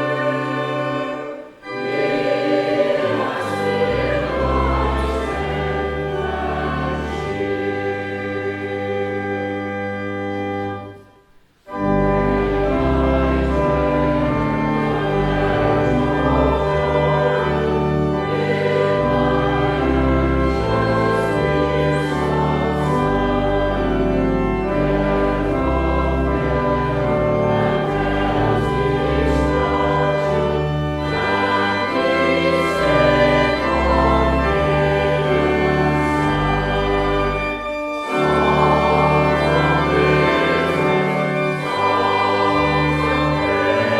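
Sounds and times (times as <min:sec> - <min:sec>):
choir singing: 0:00.0 - 0:11.0, 0:11.7 - 0:43.9
organ playing: 0:00.0 - 0:43.9.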